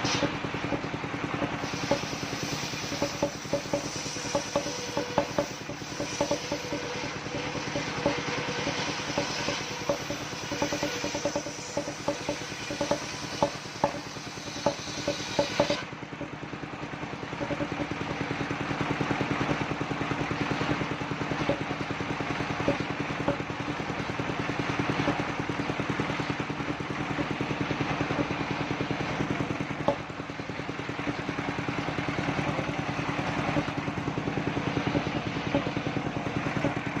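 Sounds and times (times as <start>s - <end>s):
sawmill engine running: 0.0s - 37.0s.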